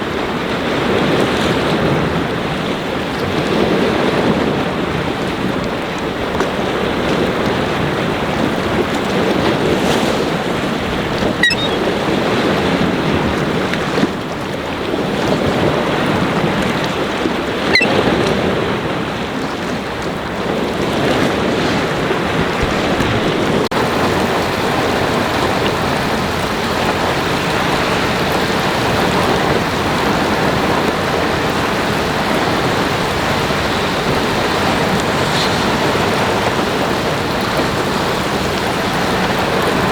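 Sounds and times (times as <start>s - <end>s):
waves breaking on a lake: 0.0s - 39.9s
wind buffeting the microphone: 0.0s - 39.9s.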